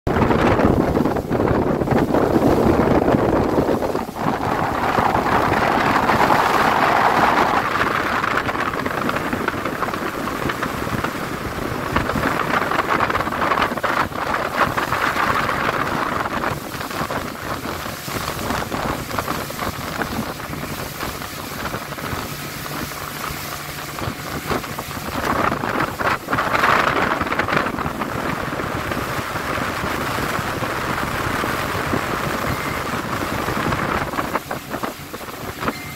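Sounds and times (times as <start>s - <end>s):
outboard engine running: 0.1s - 35.9s
wind over microphone: 0.1s - 35.9s.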